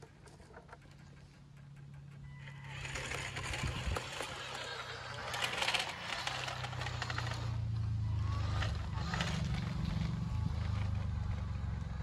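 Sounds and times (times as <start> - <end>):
small electric motors whirring: 2.2 - 12.0.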